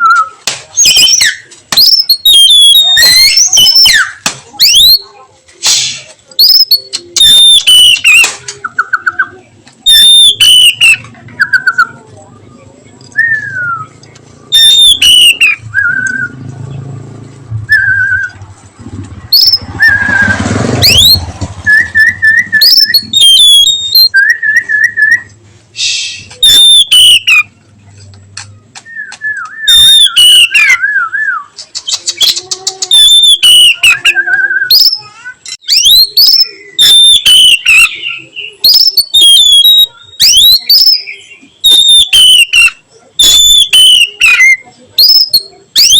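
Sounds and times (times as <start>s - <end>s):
bird singing whistles and warbles: 0.0s - 5.1s, 6.4s - 16.4s, 17.7s - 18.4s, 19.2s - 25.3s, 26.2s - 27.5s, 28.8s - 45.9s.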